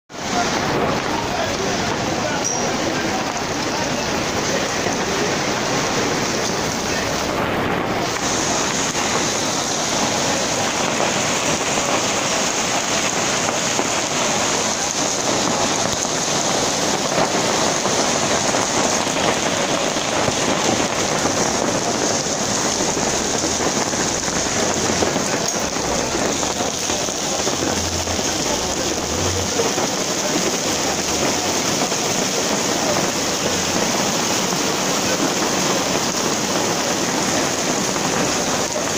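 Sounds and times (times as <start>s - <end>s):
heavy rain on street: 0.1s - 38.9s.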